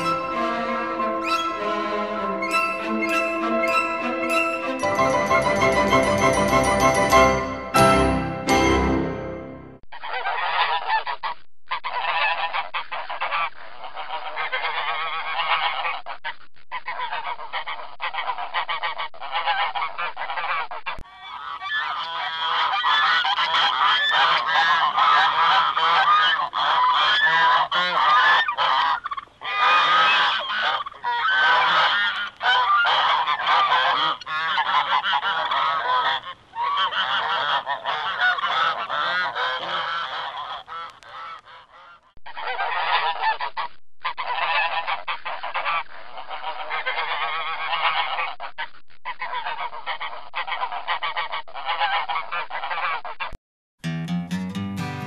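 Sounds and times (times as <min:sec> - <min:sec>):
geese honking: 0:00.0 - 0:11.2, 0:11.8 - 0:53.2.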